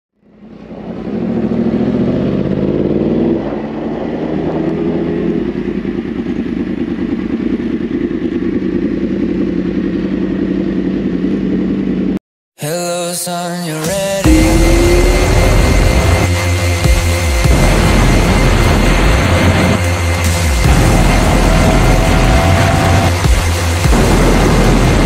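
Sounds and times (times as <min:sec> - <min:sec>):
motorcycle engine accelerating: 0:00.2 - 0:12.2, 0:14.2 - 0:25.0.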